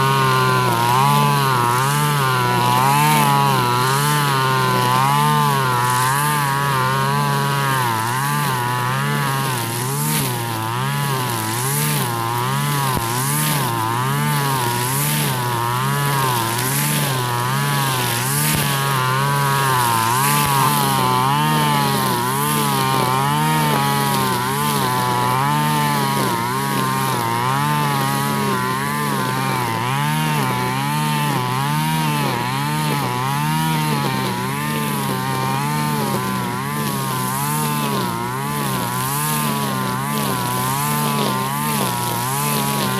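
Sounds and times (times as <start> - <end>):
brush cutter engine revving: 0.0 - 42.9.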